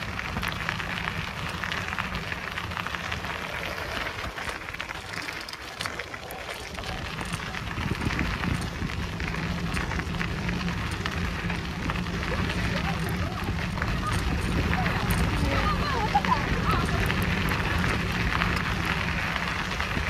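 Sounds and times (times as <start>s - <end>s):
bicycle tyres on gravel: 0.0s - 20.0s
low rumble: 0.0s - 20.0s.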